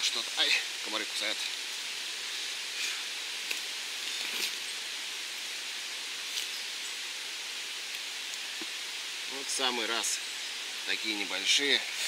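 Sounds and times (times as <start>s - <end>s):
forest background hiss: 0.0s - 12.0s
rustles in leaf litter: 0.0s - 12.0s.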